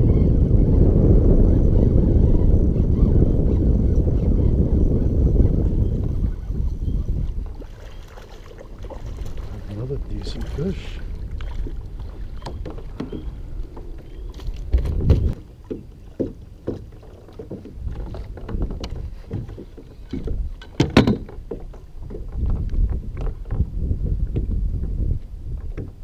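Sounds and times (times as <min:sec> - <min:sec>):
water lapping against kayak hull: 0:03.0 - 0:26.0.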